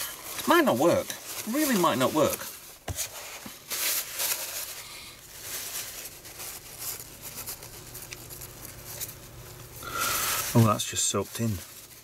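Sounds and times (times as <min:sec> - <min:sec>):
paper towel rustling: 0:00.0 - 0:12.0.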